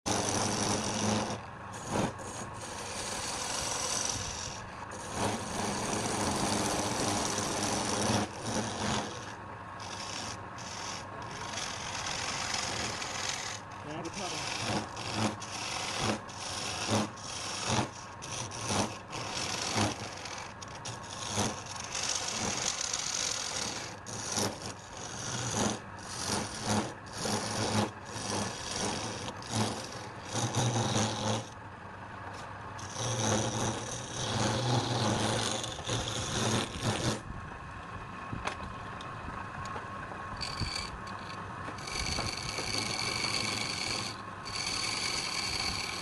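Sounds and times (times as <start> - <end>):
tool scraping spinning wood: 0.0 - 37.3, 39.4 - 46.0
low motor hum: 0.1 - 46.0.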